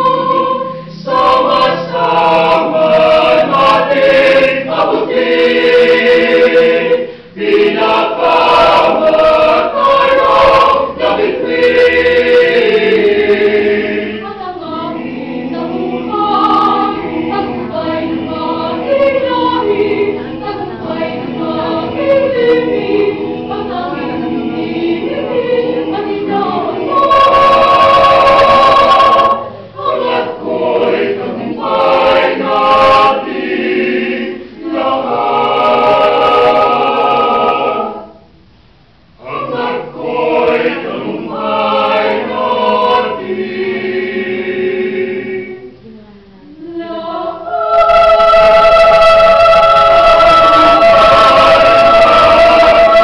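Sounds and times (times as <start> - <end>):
choir singing: 0.0 - 38.3, 39.2 - 53.0.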